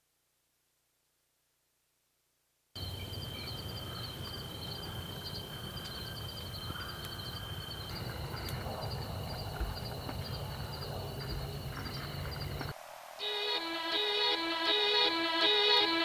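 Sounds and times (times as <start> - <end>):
high insect trill: 2.8 - 16.0
insects chirping: 2.8 - 16.0.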